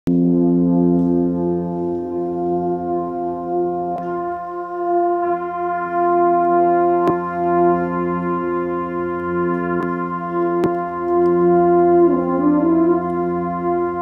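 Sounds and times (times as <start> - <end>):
brass quintet playing sustained chords: 0.1 - 14.0.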